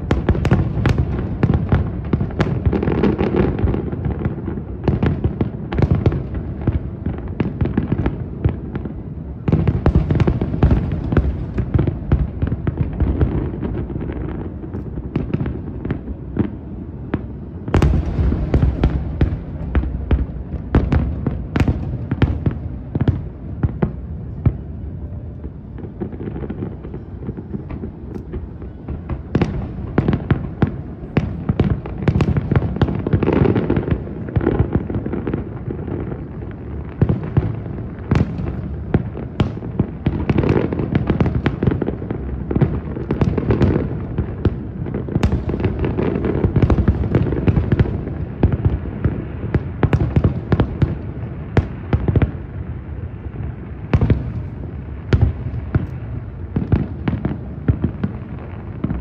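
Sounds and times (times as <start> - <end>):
fireworks bangs and cracks: 0.0 - 59.0.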